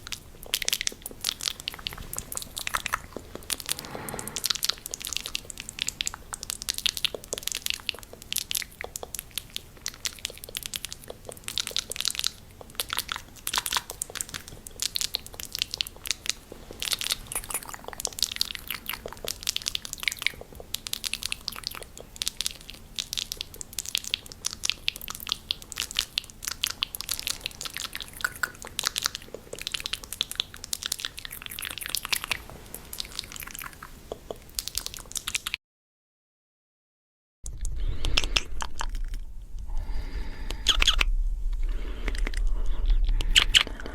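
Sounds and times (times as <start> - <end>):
tongue and lip clicks: 0.0 - 35.6, 37.5 - 43.9.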